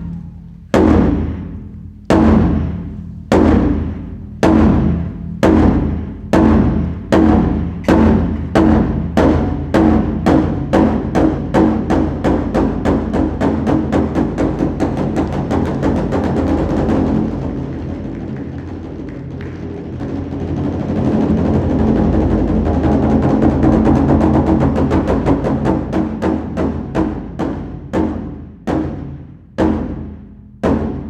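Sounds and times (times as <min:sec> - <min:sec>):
taiko drums accelerating into roll: 0:00.0 - 0:31.0.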